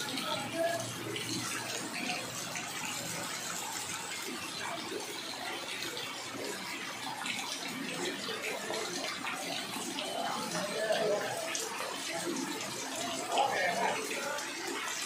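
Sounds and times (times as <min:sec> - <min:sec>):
heavy rain splashing into water: 0:00.0 - 0:15.0.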